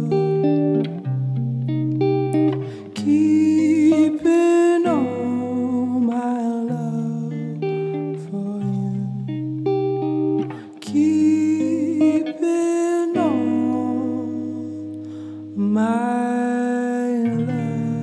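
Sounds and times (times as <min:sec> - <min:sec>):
mellow guitar song with bass: 0:00.0 - 0:18.0.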